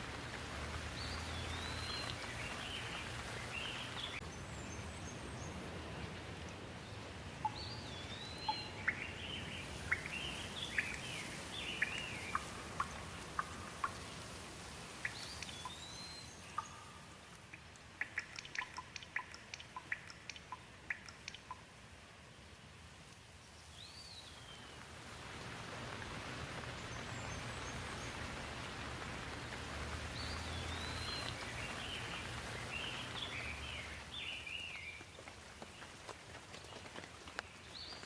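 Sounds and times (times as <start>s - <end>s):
sharp water drips: 0.0s - 4.3s, 6.3s - 22.0s, 23.0s - 38.0s
steady rain: 0.0s - 38.0s.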